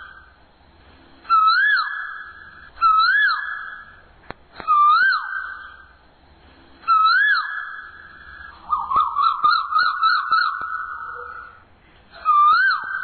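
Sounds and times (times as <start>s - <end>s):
bird whistled calls: 0.0s - 0.4s, 1.2s - 4.0s, 4.6s - 6.0s, 6.8s - 13.0s.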